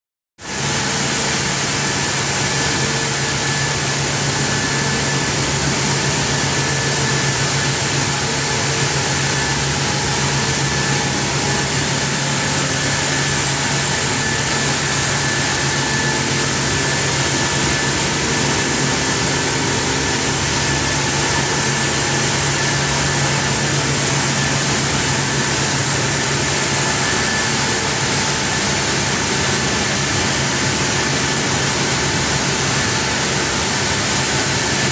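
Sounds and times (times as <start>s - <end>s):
low machinery hum: 0.5s - 34.9s.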